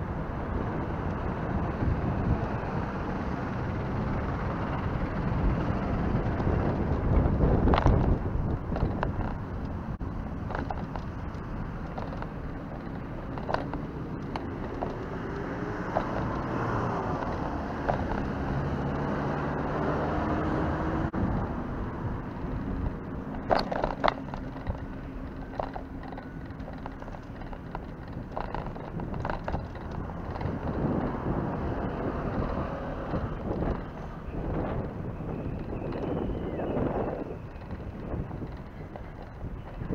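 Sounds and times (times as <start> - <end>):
bicycle tyre and road noise: 0.0 - 39.9
bike rattling over bumps: 0.0 - 39.9
traffic passing: 0.0 - 39.9
wind noise on microphone: 0.0 - 39.9.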